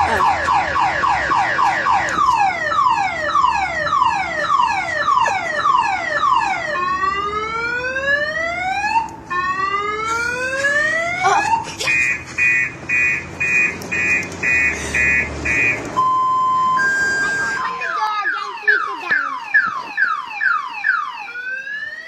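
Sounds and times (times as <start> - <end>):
car alarm siren: 0.0 - 22.0.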